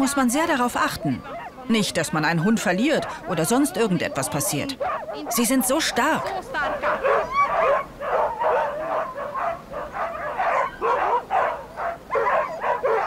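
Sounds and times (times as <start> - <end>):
huskies yipping and whining: 0.0 - 13.0.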